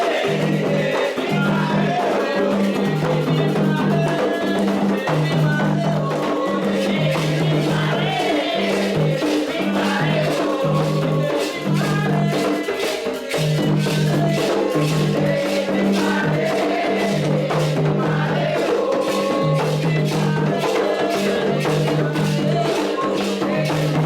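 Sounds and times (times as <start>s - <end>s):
people singing: 0.0s - 24.0s
rapid drumming: 0.0s - 24.0s.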